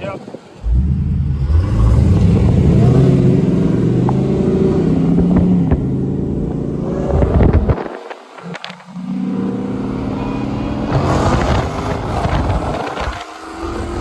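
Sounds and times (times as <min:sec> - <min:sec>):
car engine at full throttle: 0:00.6 - 0:14.0.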